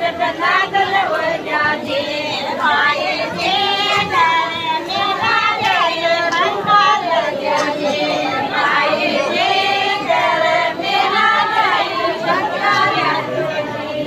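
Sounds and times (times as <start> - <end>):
women singing together: 0.0 - 14.0.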